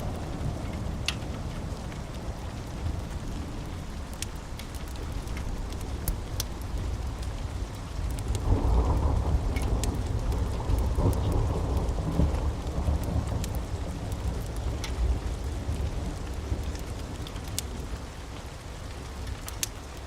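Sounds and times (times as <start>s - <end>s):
low rolling thunder: 0.0s - 18.3s
steady rain: 0.0s - 20.0s
wood fire crackling: 0.0s - 20.0s.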